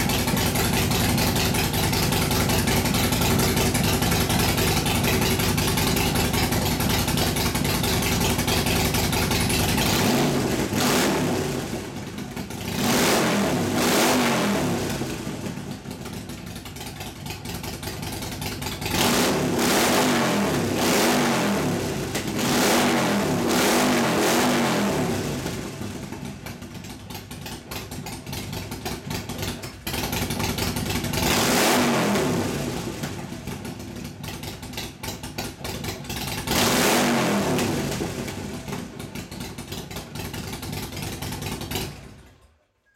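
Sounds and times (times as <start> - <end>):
motorcycle engine revving: 0.0 - 42.3.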